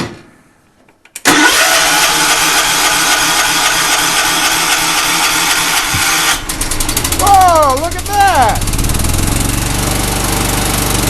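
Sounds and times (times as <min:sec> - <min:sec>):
lawn tractor engine starting: 0:01.2 - 0:11.0.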